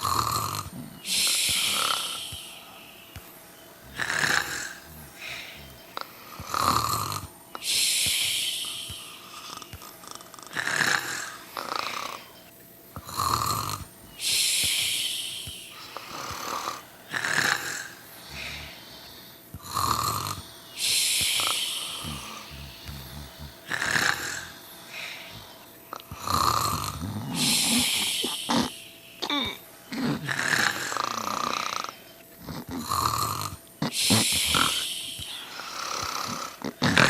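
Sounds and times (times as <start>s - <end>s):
long hissing breath out: 0.0s - 9.7s, 10.5s - 29.2s, 29.9s - 37.0s
snoring: 0.0s - 37.0s.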